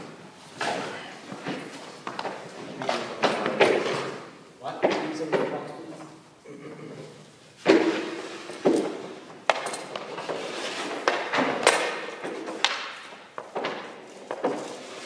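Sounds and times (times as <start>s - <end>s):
hockey stick and pucks knocking: 0.6s - 4.2s, 4.8s - 5.8s, 7.6s - 15.0s.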